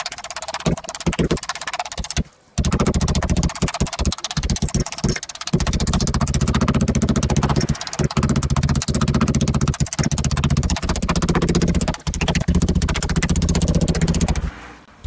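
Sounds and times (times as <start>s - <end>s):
meat mallet pounding on wood: 0.4s - 14.5s.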